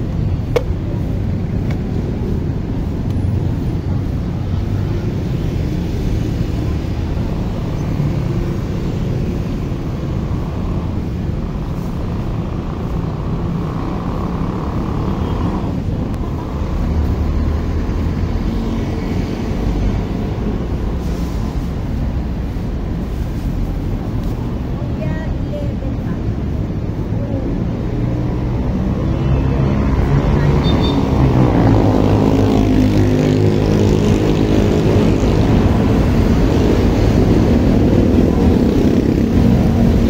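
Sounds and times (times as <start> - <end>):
low rumble of road traffic: 0.0 - 40.0.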